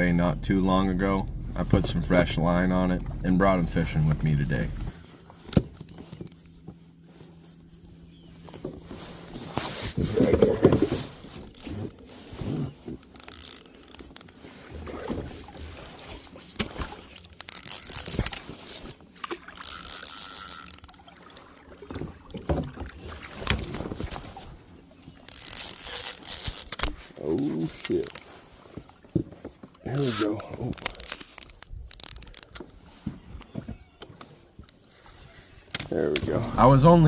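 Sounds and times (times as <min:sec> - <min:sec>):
knocks and rustles of fishing gear: 0:04.1 - 0:36.6.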